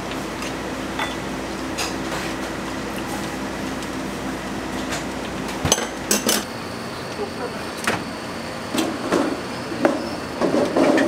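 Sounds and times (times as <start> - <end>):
kitchen background hum: 0.0 - 11.0.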